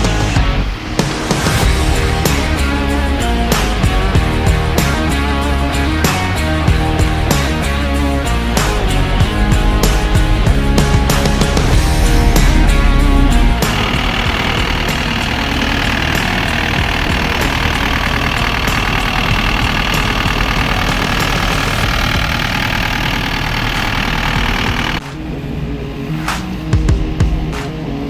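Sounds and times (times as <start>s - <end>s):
excavator diesel engine running: 0.0s - 26.4s.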